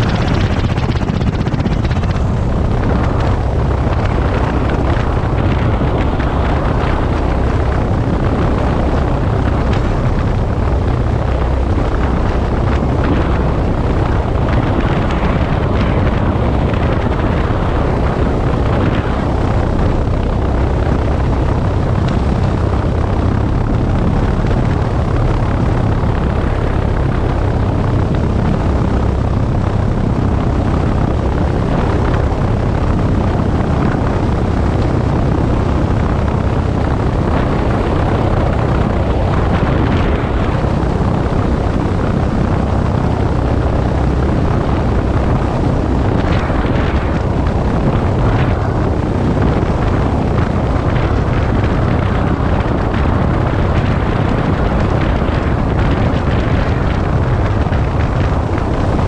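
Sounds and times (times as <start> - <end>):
propeller airplane engine drone: 0.0 - 59.0.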